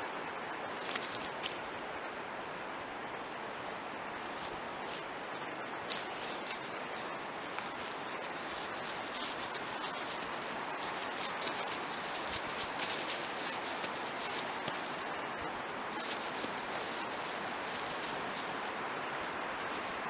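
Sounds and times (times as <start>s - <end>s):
small crinkles and scrapes: 0.0s - 1.7s, 4.2s - 20.0s
fabric rustling: 0.0s - 1.8s, 4.1s - 20.0s
background hiss: 0.0s - 20.0s.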